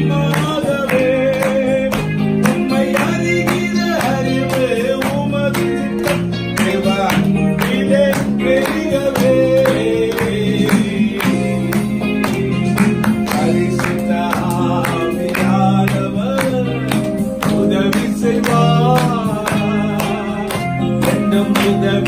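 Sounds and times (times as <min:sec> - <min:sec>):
group singing: 0:00.0 - 0:05.4, 0:06.6 - 0:12.1, 0:13.3 - 0:22.0
hand clapping in time: 0:00.0 - 0:22.0.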